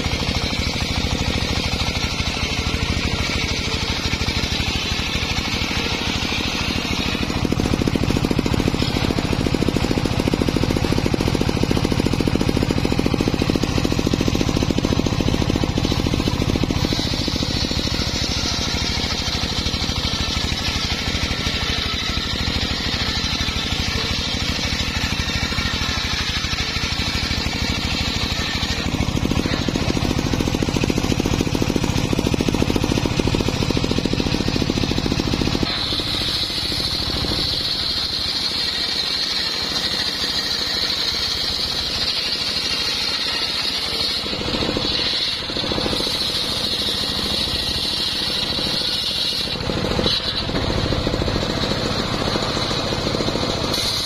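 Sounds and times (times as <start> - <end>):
chainsaw cutting log: 0.0 - 54.0
circular saw blade whining: 0.0 - 54.0
sawmill engine running: 0.0 - 54.0.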